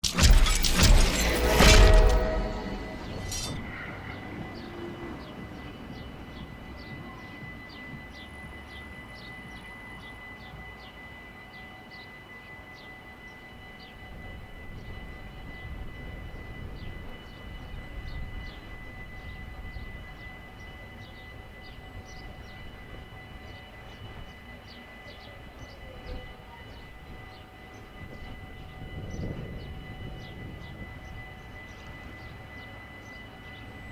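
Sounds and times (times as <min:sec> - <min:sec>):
faint high whine: 0:00.0 - 0:33.9.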